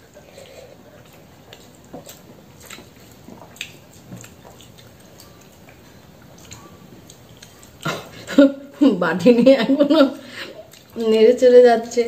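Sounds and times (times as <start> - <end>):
chewing: 0.0 - 8.3, 10.4 - 12.0.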